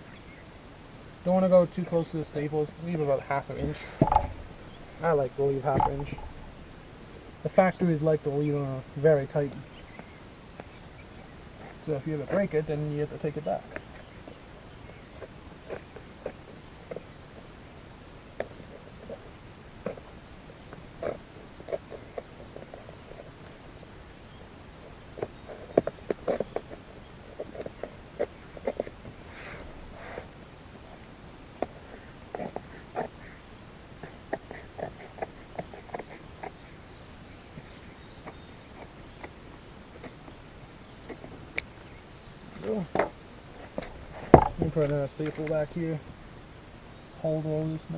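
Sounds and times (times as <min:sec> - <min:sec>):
cricket chirping: 0:00.0 - 0:47.9.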